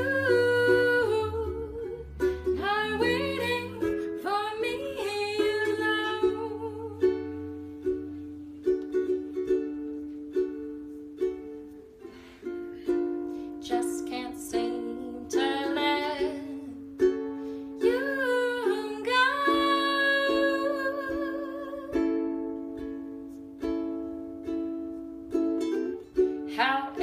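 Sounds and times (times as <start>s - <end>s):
ukulele chords: 0.0s - 27.0s.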